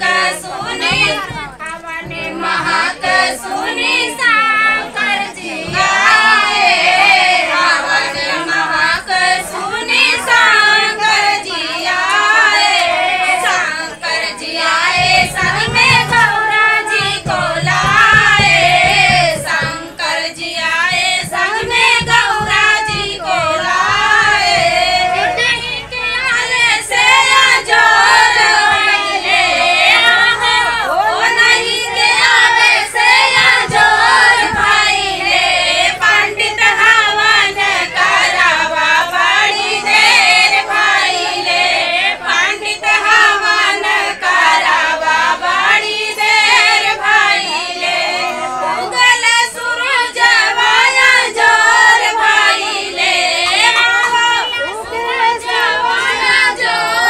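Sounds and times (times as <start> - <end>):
women singing devotional folk song: 0.0 - 57.0.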